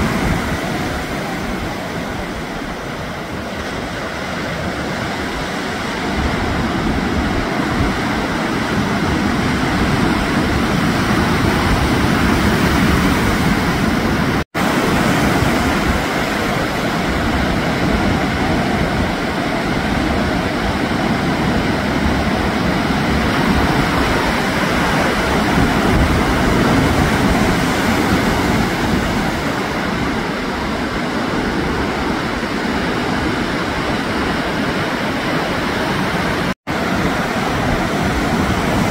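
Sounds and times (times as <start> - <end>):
ocean surf breaking: 0.0 - 38.9.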